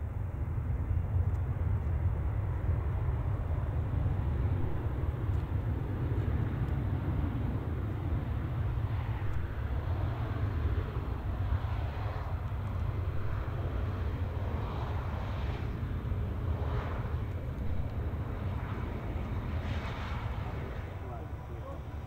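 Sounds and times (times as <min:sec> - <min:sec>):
jet engine noise: 0:00.0 - 0:22.0
low rumble: 0:00.0 - 0:22.0.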